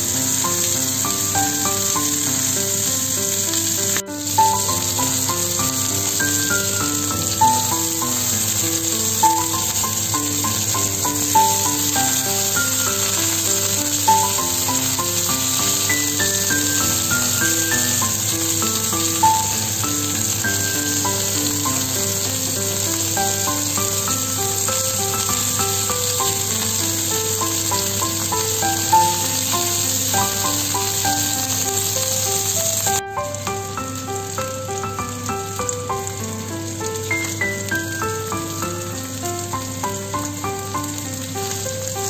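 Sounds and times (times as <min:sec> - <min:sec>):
background music melody: 0:00.0 - 0:42.0
food sizzling in oil: 0:00.0 - 0:42.0.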